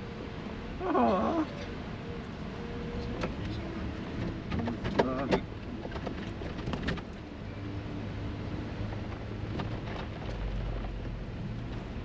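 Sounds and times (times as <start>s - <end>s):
coach engine drone: 0.0s - 12.0s
road noise: 0.0s - 12.0s.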